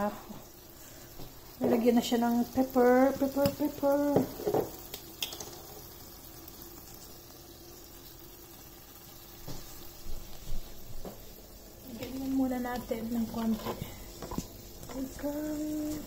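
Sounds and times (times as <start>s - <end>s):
pot bubbling: 0.0s - 16.0s.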